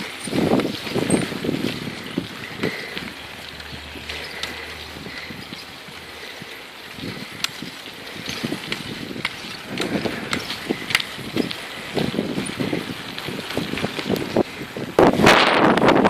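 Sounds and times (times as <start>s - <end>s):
bicycle rattling on rough path: 0.0s - 16.0s.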